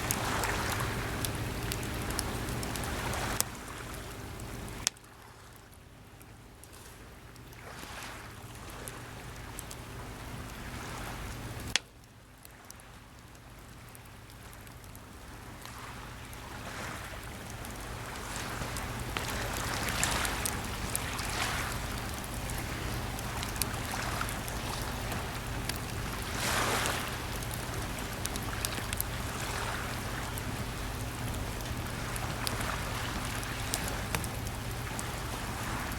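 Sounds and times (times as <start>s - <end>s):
sea waves washing on shore: 0.0s - 5.6s, 6.7s - 11.8s, 12.5s - 35.9s
campfire crackling: 0.0s - 35.9s
steady low hum: 0.0s - 35.9s.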